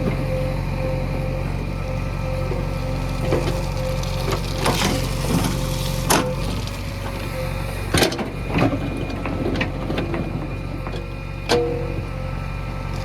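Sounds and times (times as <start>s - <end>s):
diesel engine of heavy machinery: 0.0s - 13.0s.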